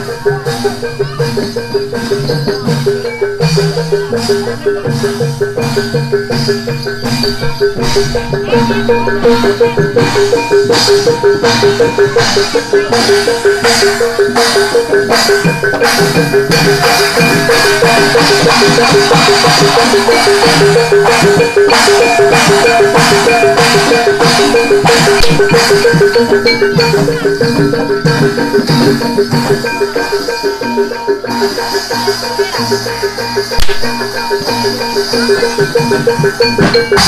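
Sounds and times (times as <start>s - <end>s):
hand drum strokes: 0.0s - 37.0s
metal-keyed percussion pattern: 0.0s - 37.0s.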